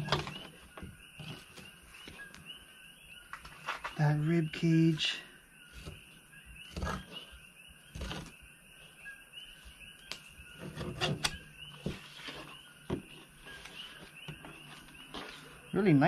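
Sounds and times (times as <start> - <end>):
faint steady chirping: 0.0 - 16.0.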